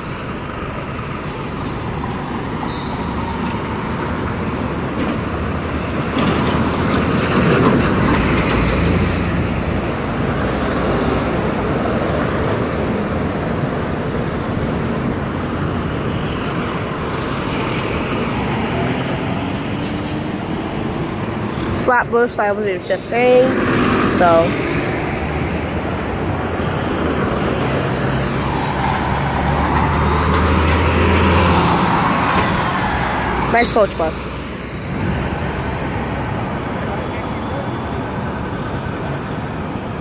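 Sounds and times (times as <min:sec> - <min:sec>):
cars and buses driving past: 0:00.0 - 0:40.0.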